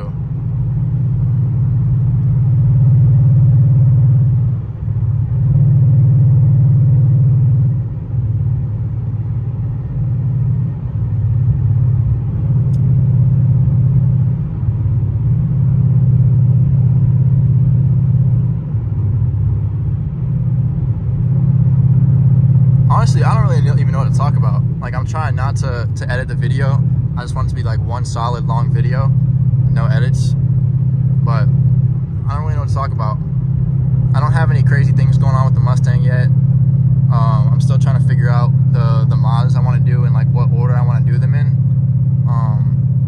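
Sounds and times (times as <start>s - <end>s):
car engine drone in cabin: 0.0s - 43.0s.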